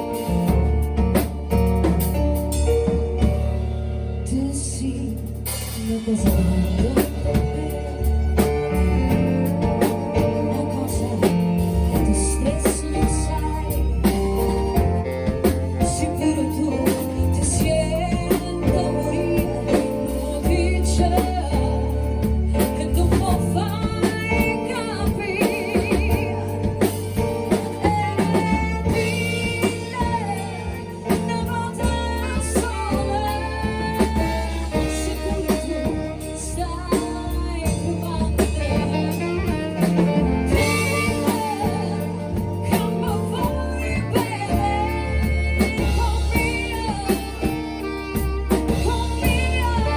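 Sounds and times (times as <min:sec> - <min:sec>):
bass line: 0:00.0 - 0:49.9.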